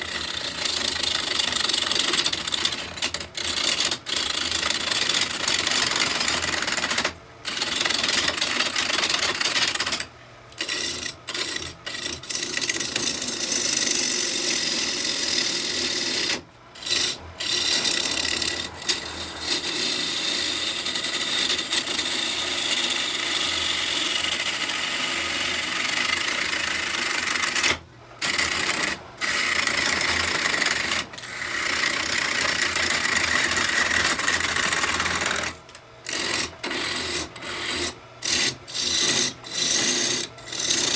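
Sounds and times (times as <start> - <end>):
lathe gouge shearing wood: 0.0 - 40.9.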